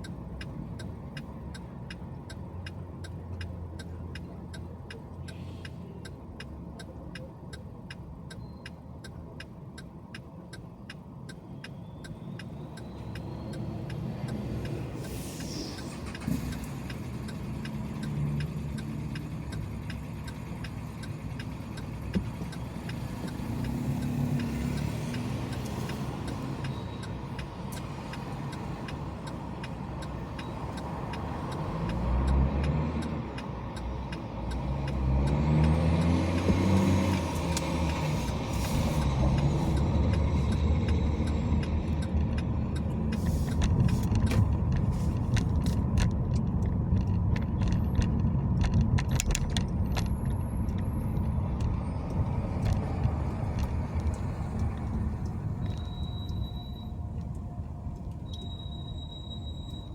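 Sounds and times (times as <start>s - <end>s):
faint regular ticking: 0.0s - 58.5s
car engine and tyre noise: 0.0s - 59.9s.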